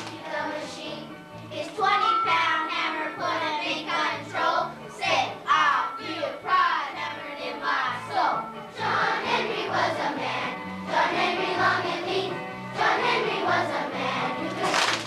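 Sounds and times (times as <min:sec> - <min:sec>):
children singing together: 0:00.0 - 0:15.0.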